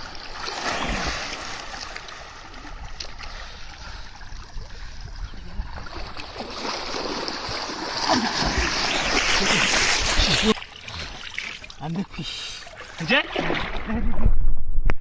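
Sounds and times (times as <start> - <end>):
water sloshing and splashing: 0.0 - 14.2.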